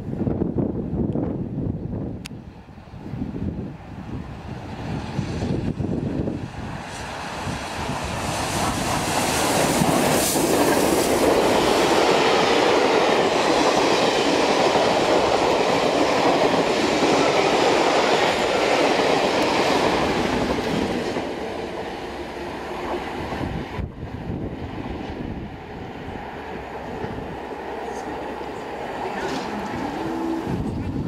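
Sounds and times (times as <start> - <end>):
train wheels on rails: 3.9 - 31.0.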